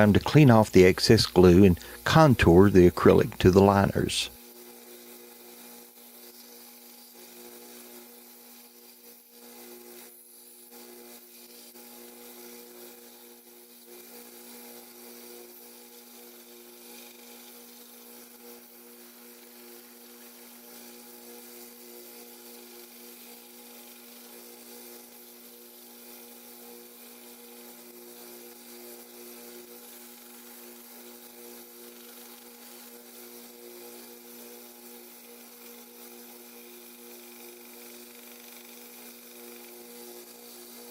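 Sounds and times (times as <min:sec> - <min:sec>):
faint sanding hiss: 0:00.0 - 0:40.9.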